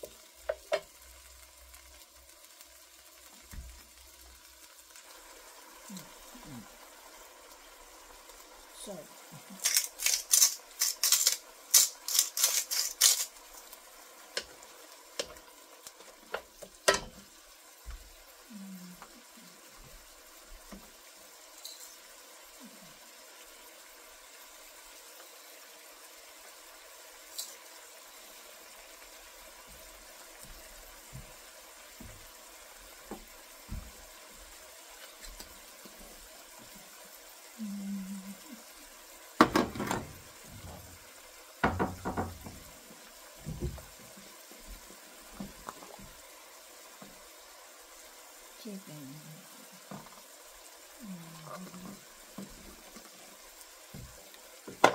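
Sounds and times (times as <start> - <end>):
vegetables sizzling: 0.0 - 54.9.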